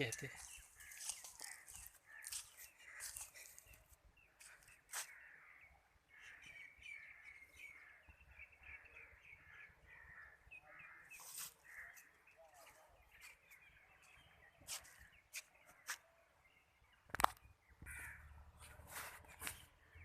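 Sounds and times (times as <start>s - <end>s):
bird calls: 0.0s - 20.0s.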